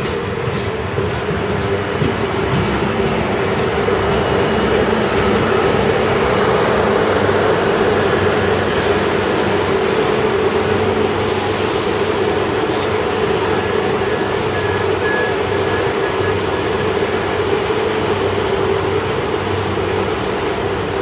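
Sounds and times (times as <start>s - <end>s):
train wagons rumbling on rails: 0.0s - 21.0s.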